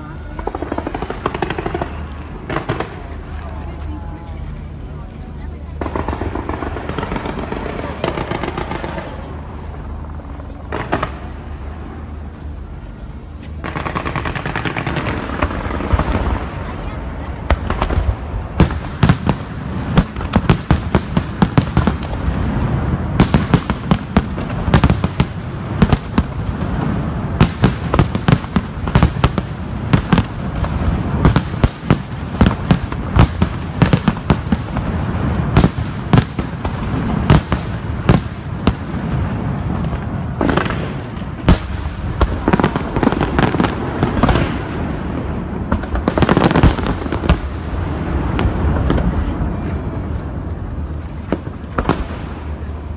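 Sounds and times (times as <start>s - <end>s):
low rumble of echoing reports: 0.0s - 52.9s.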